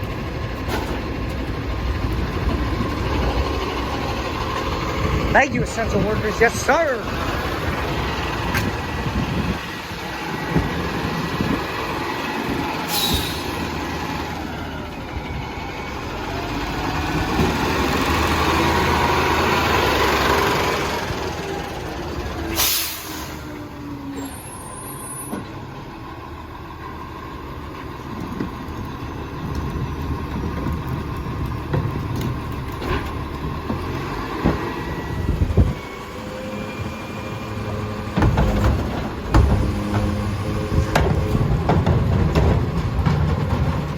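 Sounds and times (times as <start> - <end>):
garbage truck diesel engine: 0.0 - 43.9.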